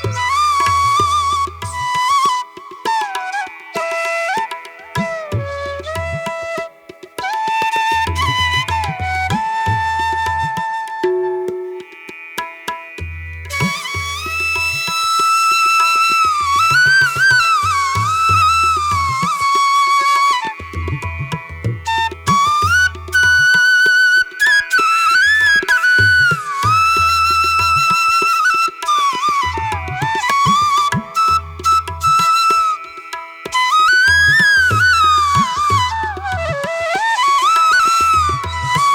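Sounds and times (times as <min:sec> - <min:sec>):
flute melody: 0:00.0 - 0:11.9, 0:13.4 - 0:38.9.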